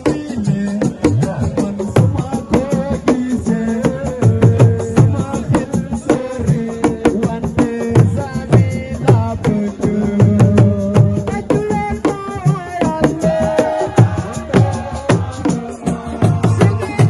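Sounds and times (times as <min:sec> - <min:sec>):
fast hand drumming: 0:00.0 - 0:17.0.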